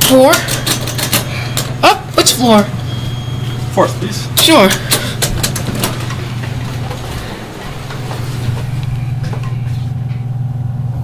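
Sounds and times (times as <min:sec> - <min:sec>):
elevator clicks: 0:00.0 - 0:03.7, 0:04.4 - 0:10.3
elevator humming: 0:00.0 - 0:11.0.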